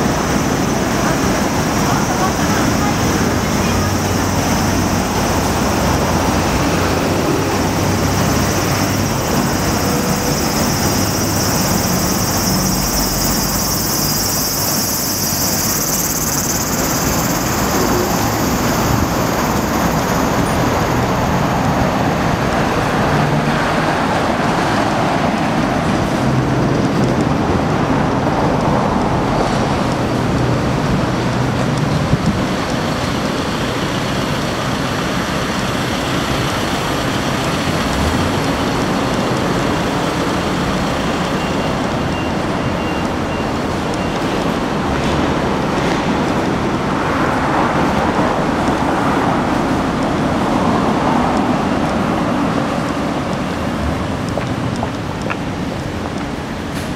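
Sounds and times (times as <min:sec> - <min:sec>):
city street traffic: 0:00.0 - 0:56.9.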